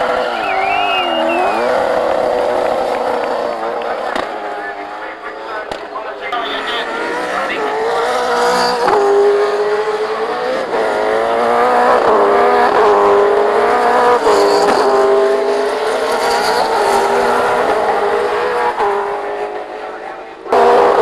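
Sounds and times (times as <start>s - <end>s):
racing car engine at full throttle: 0.0s - 21.0s.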